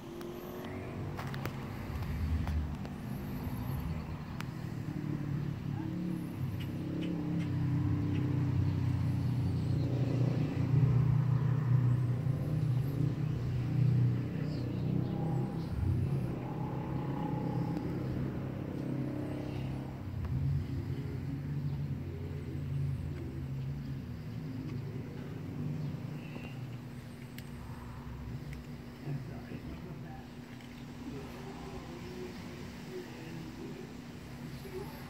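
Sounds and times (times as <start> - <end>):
cat purring: 0.0 - 35.0.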